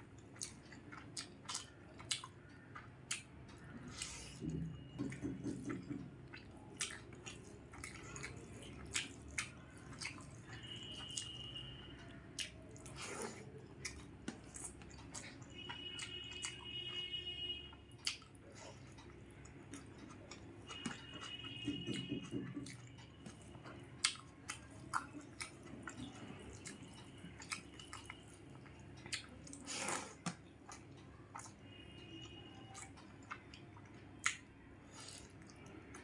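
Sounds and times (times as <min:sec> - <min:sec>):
chewing and wet mouth smacks: 0:00.2 - 0:17.1, 0:17.9 - 0:31.6, 0:32.2 - 0:36.0.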